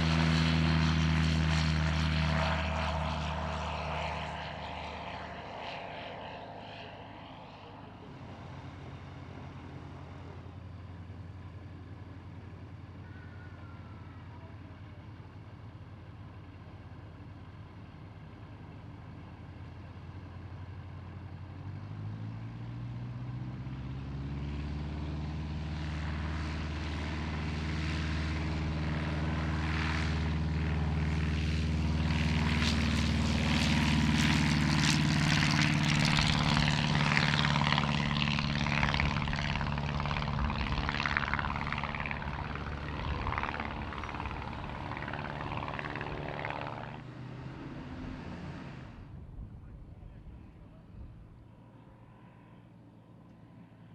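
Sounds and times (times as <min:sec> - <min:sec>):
propeller aircraft engine: 0:00.0 - 0:53.9.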